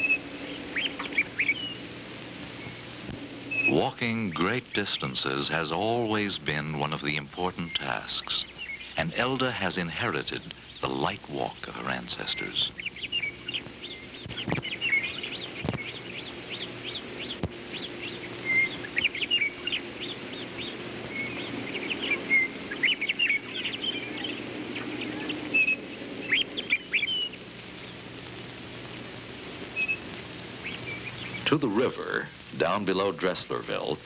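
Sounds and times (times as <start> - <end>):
birds chirping: 0.0 - 34.0
steady low hum: 0.0 - 34.0.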